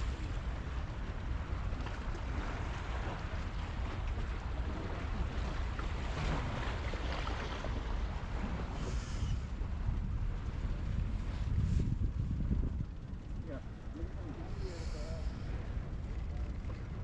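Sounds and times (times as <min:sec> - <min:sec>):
sea: 0:00.0 - 0:17.0
wind buffeting microphone: 0:00.0 - 0:17.0.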